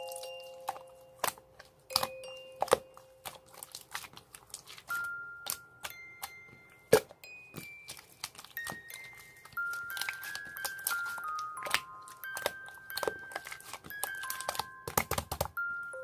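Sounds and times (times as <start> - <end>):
bell-like music notes: 0.0 - 3.6, 4.9 - 16.0
slime clicking and popping: 0.0 - 15.6.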